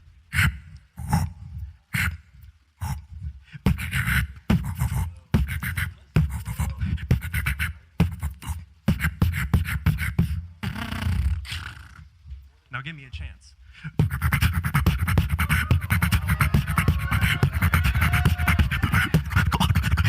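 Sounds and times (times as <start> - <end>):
beatboxing vocal percussion: 0.3 - 12.1, 13.8 - 20.0.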